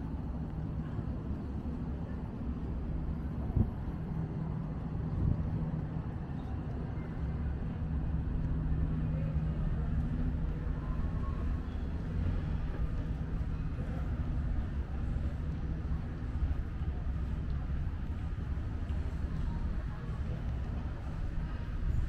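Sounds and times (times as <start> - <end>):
low mechanical hum and rumble: 0.0 - 22.0.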